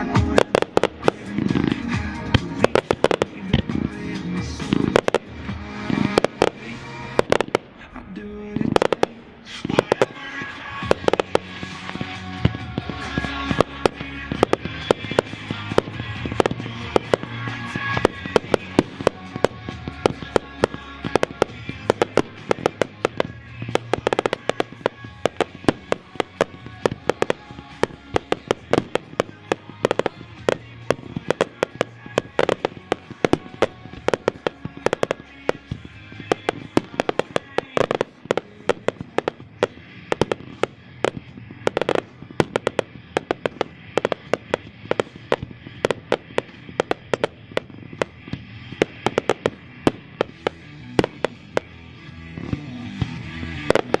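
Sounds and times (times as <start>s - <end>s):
background music: 0.0s - 54.0s
fireworks shots and bangs: 0.0s - 54.0s.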